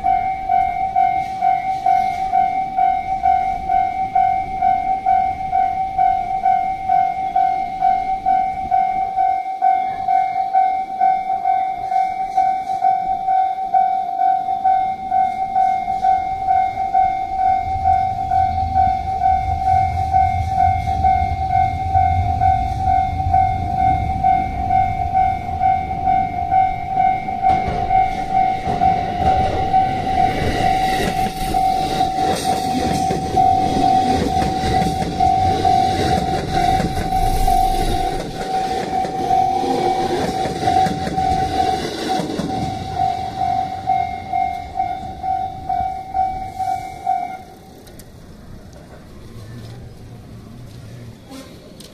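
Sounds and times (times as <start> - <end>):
level crossing bell dinging: 0.0 - 47.6
electric train passing: 0.0 - 51.9.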